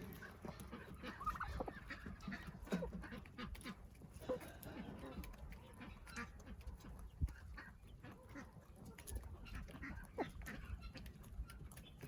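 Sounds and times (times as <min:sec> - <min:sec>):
chickens and ducks calling: 0:00.0 - 0:12.0.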